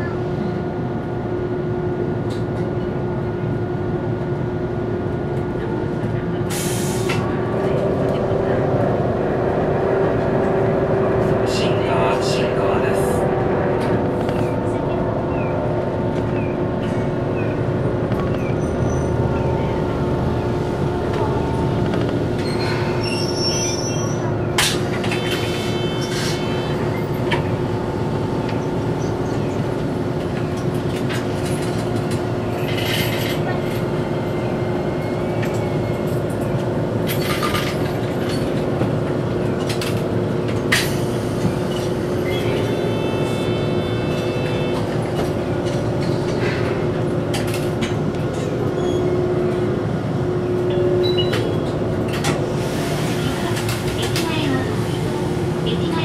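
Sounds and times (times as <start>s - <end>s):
tram cabin hum and rumble: 0.0s - 56.0s.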